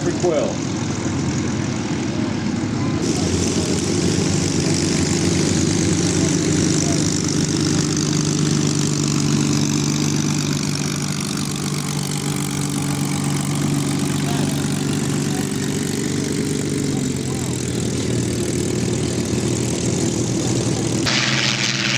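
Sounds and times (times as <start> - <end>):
aircraft piston engines droning: 0.0 - 21.9.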